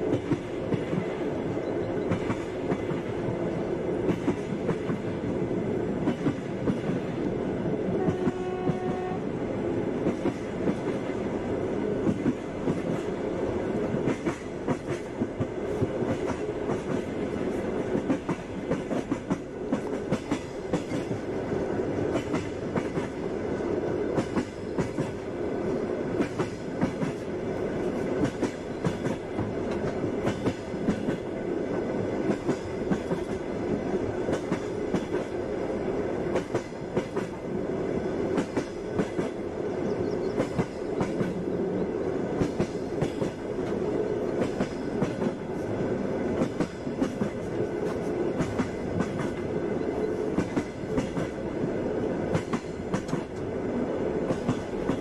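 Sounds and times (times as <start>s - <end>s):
train wheels clacking on rails: 0.0s - 9.2s, 9.8s - 55.0s.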